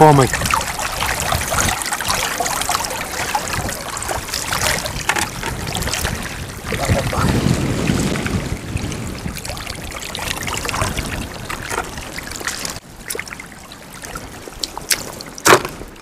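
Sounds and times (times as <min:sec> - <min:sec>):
water trickling over sand: 0:00.0 - 0:16.0.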